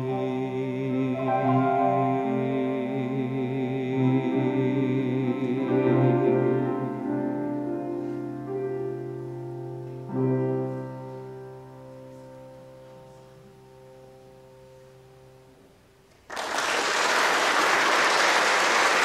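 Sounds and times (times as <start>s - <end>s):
piano chords: 0.0s - 16.1s.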